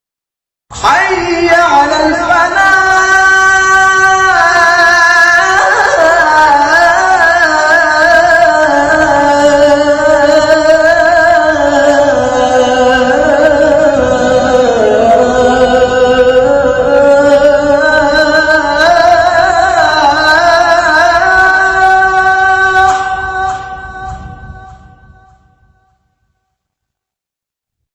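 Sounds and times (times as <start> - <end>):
man chanting call to prayer: 0.7 - 25.2.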